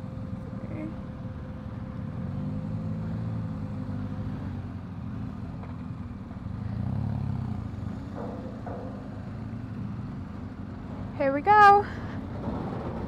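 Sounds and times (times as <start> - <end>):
motorcycle engines revving: 1.6 - 13.0.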